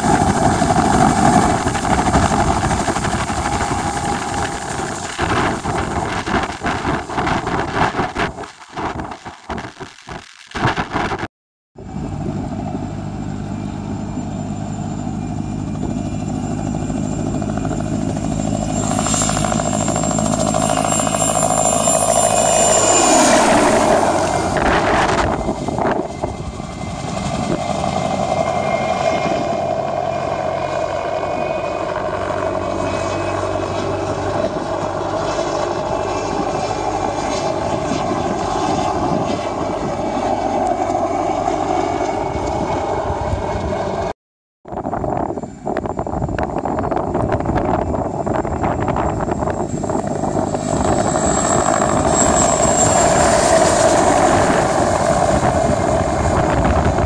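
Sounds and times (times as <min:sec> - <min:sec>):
helicopter engines and rotor: 0:00.0 - 0:11.2, 0:11.8 - 0:44.1, 0:44.7 - 0:57.0
high turbine whine: 0:00.0 - 0:44.1, 0:44.7 - 0:57.0.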